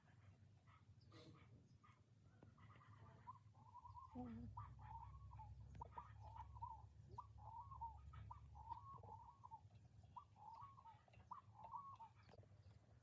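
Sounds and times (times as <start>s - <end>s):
faint bird calls: 0.0s - 13.0s.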